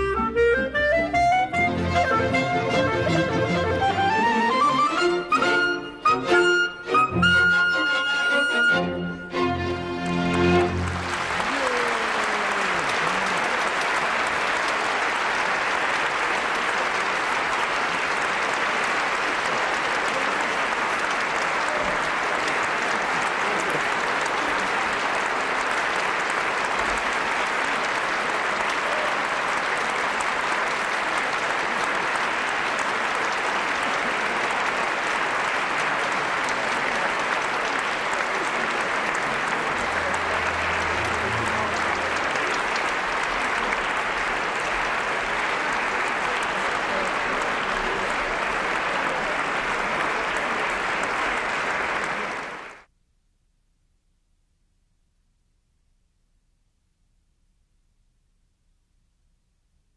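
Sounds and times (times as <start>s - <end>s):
audience applauding: 0.0s - 52.9s.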